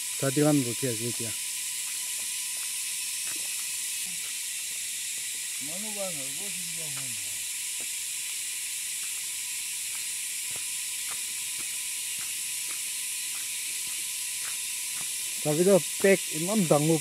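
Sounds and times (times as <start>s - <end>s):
insect chorus hiss: 0.0s - 17.0s.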